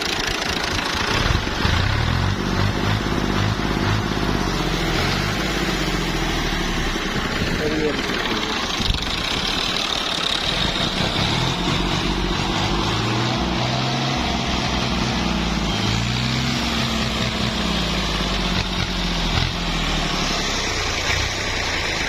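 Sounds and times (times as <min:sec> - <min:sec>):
diesel tractor engine idling: 0:00.0 - 0:22.0.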